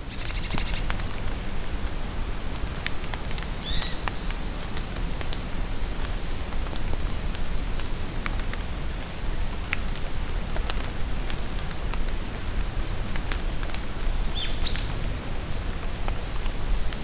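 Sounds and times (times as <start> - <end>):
steady rain in a forest: 0.0 - 17.0.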